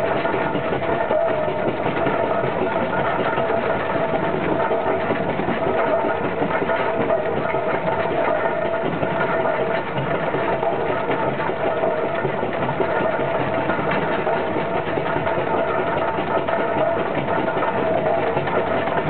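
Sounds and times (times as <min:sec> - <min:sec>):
steam engine mechanical clatter: 0:00.0 - 0:19.0.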